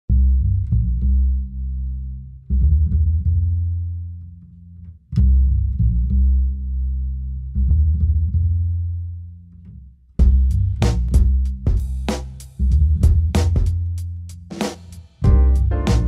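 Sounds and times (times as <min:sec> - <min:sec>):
deep bass notes: 0:00.1 - 0:16.0.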